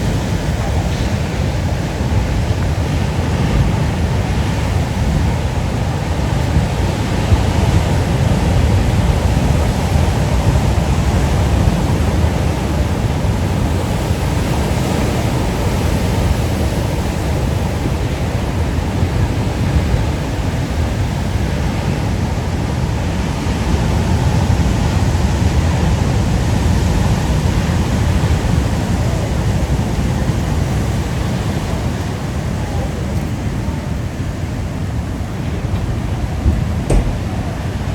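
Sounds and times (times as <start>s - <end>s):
ocean surf roar: 0.0s - 37.9s.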